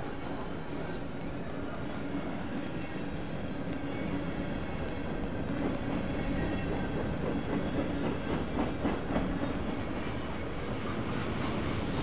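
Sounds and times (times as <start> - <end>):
train wheels rumbling on rails: 0.1 - 12.0.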